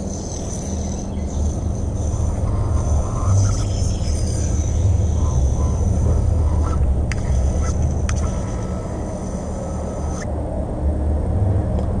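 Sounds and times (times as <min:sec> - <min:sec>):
spin top whining on string: 0:00.0 - 0:10.3
low rumble: 0:00.0 - 0:12.0.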